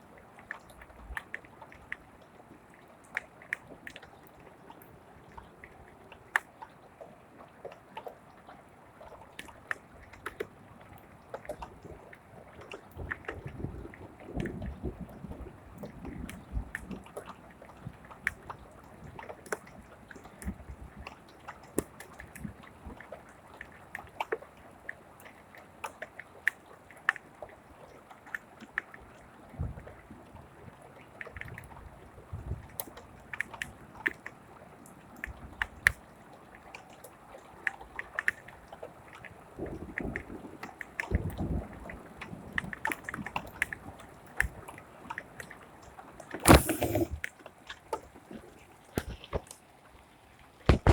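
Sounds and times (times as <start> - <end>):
raindrops ticking close by: 0.1 - 46.0.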